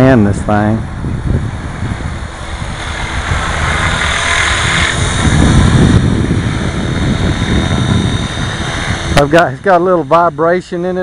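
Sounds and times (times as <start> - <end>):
model helicopter rotor whining: 0.0 - 11.0
rotor wash low rumble: 0.0 - 11.0.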